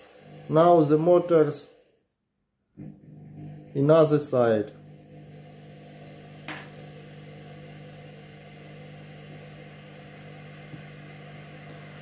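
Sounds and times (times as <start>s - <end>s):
washing machine motor humming: 0.0s - 1.8s, 2.7s - 12.0s.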